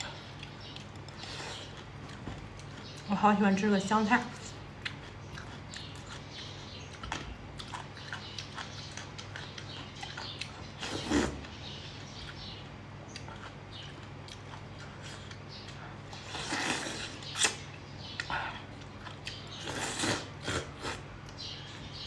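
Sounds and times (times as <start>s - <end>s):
person chewing: 0.0s - 3.1s, 4.5s - 22.0s
faint low hum: 0.0s - 22.0s.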